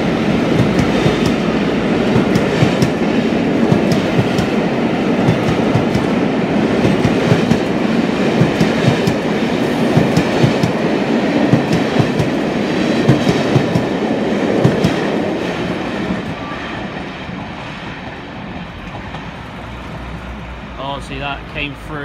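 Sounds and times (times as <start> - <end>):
train coaches rolling by: 0.0 - 22.0.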